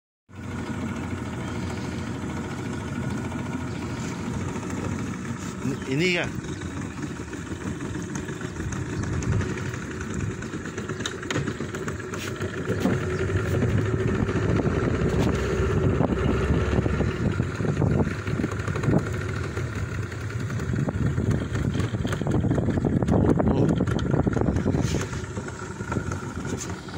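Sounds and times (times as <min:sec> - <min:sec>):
boat engine running: 0:00.3 - 0:26.9.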